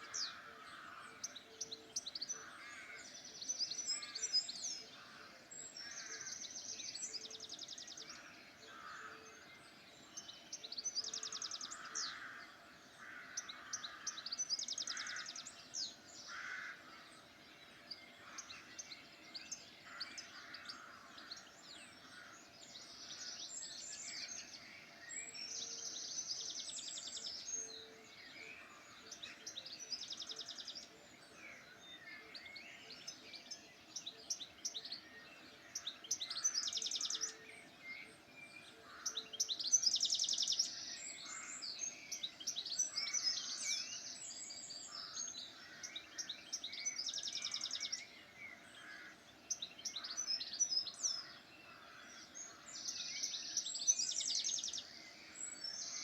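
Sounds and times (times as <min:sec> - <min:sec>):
birds singing in chorus: 0:00.0 - 0:56.0.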